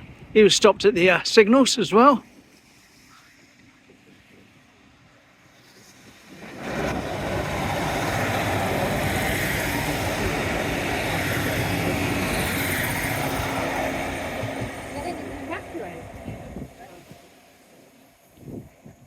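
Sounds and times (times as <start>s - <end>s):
train passing: 0.9s - 19.0s.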